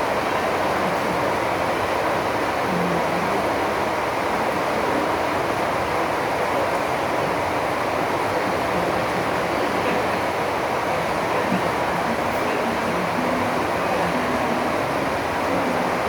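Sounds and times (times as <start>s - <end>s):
drizzling rain: 0.0s - 16.0s.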